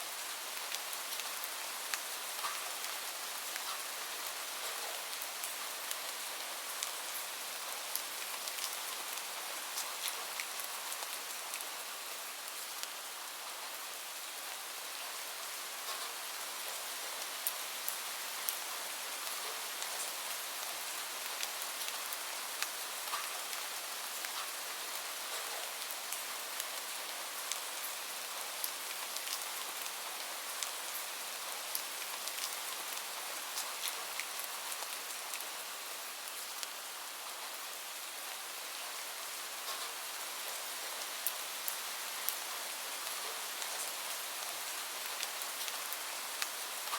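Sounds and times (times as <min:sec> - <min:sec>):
gentle rain: 0:00.0 - 0:46.9.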